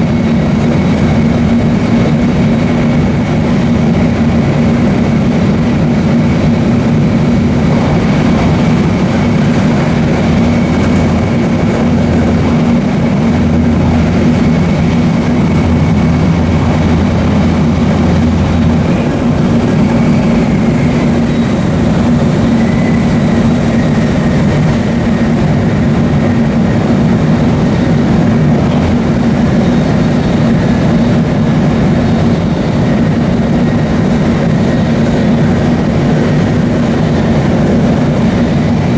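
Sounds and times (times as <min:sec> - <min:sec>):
train running at speed: 0:00.0 - 0:38.9.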